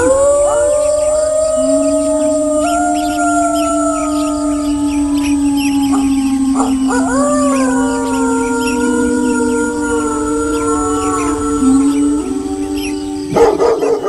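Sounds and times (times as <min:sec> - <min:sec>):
wolves howling: 0:00.0 - 0:14.0.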